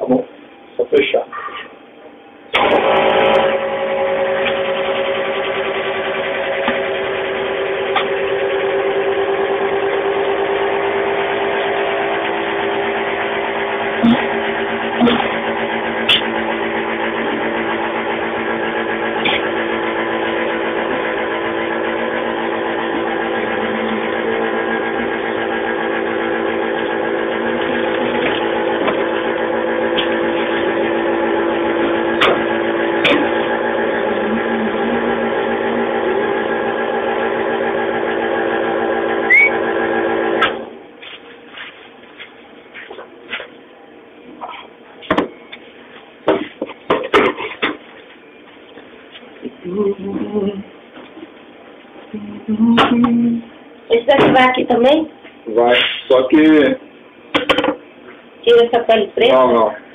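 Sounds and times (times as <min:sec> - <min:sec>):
kitchen machine motor humming: 0:02.5 - 0:41.0, 0:44.5 - 0:59.9.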